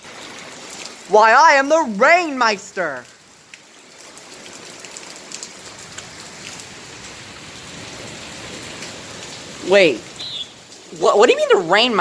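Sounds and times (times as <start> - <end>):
rain hissing: 0.0 - 12.0
rain drop ticks: 0.2 - 12.0.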